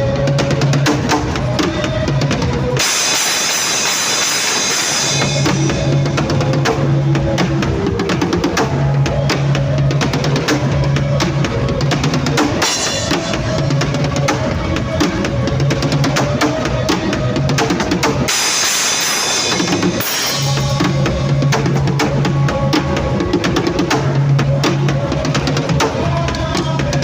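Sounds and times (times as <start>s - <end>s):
drum kit playing: 0.0s - 27.0s
held bass line: 0.0s - 27.0s.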